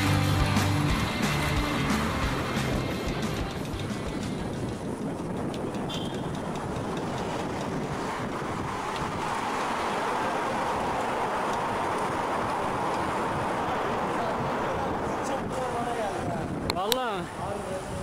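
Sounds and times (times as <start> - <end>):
wind rushing over microphone: 2.2 - 18.0.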